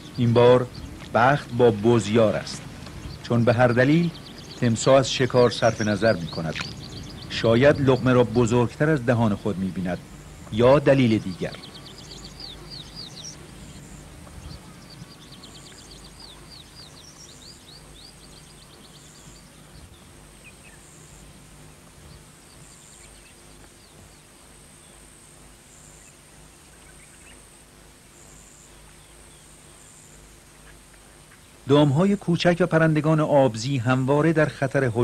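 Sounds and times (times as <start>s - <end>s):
bird chirping: 0.0s - 35.0s
low background noise: 0.0s - 35.0s.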